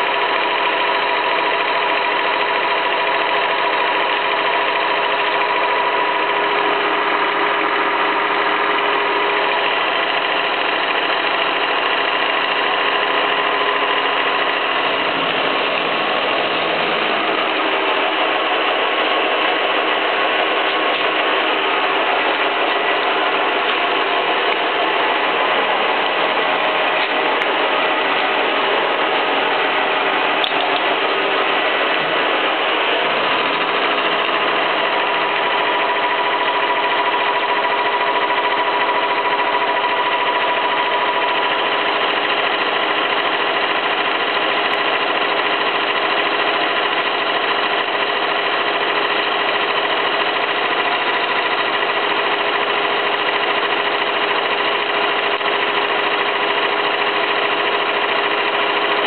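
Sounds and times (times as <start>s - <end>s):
milling cutter grinding steel: 0.0s - 59.0s
spindle drive whine: 0.0s - 59.0s.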